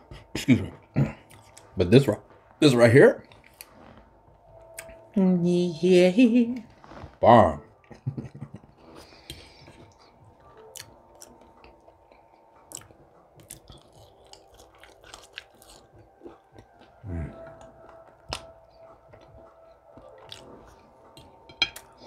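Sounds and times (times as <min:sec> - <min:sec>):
person chewing: 0:00.0 - 0:01.8, 0:03.2 - 0:05.1, 0:07.8 - 0:22.0.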